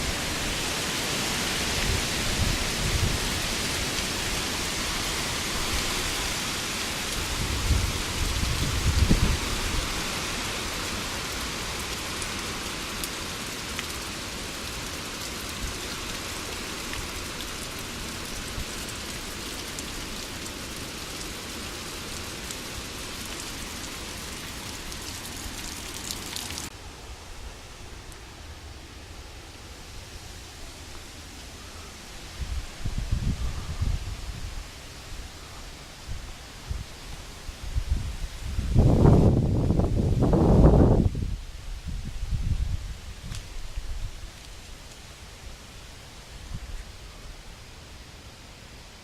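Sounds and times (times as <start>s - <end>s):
heavy rain hissing: 0.0s - 49.0s.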